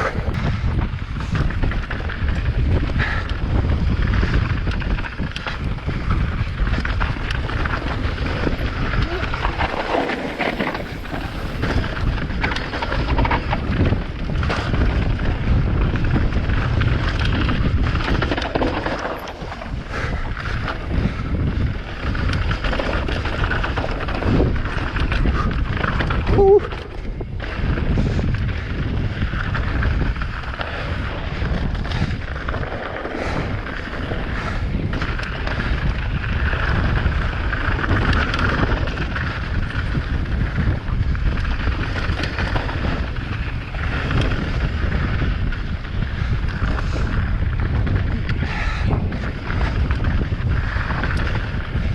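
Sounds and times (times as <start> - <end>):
wind buffeting microphone: 0.0 - 51.9
bike rattling over rocks: 0.2 - 51.9.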